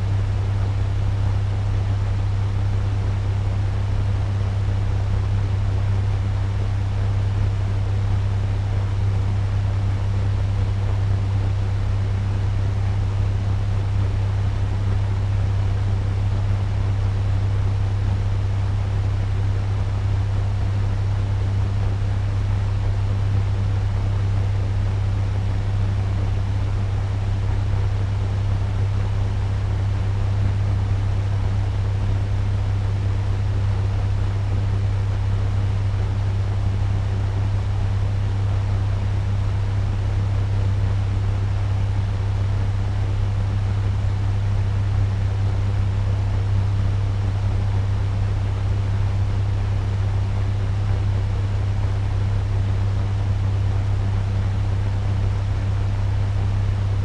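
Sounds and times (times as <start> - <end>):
fan running with low hum: 0.0 - 57.0.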